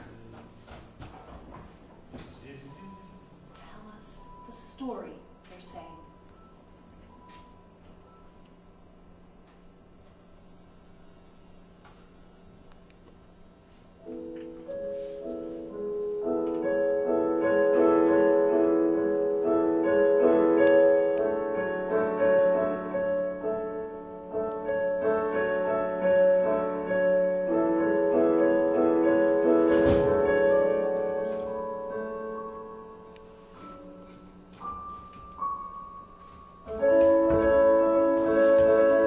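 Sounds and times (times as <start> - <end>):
slow piano music: 2.3 - 11.1, 13.8 - 39.0.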